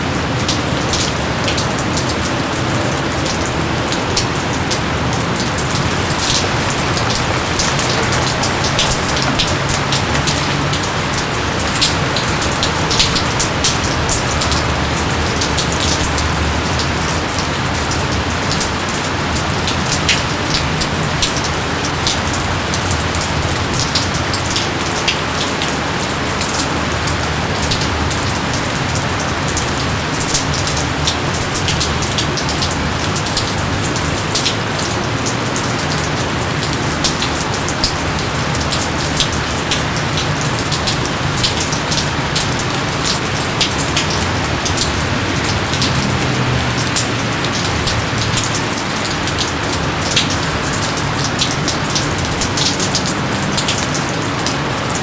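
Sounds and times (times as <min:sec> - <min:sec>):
close raindrops striking: 0:00.0 - 0:55.0
steady rain hiss: 0:00.0 - 0:55.0.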